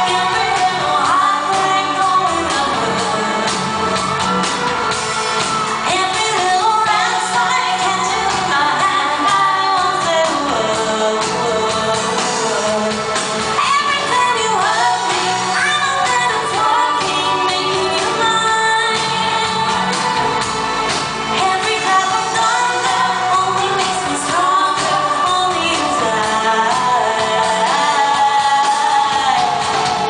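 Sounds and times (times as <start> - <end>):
woman singing: 0.0 - 4.1, 5.8 - 20.5, 21.3 - 30.0
electropop band playing: 0.0 - 30.0.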